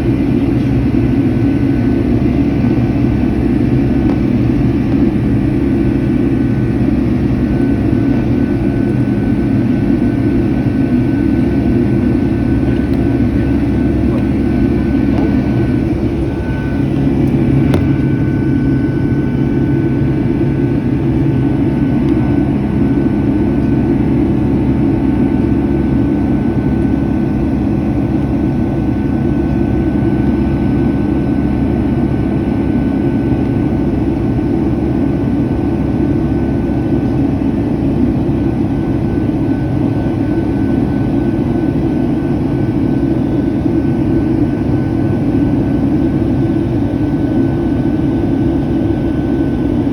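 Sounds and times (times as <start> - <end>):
jet engine and airflow rumble: 0.0 - 49.9
thin steady whine: 0.0 - 49.9.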